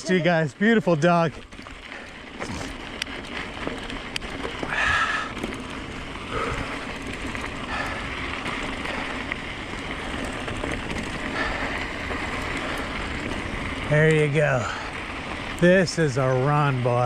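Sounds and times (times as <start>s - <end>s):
bike tyres rolling on trail: 0.0s - 17.0s.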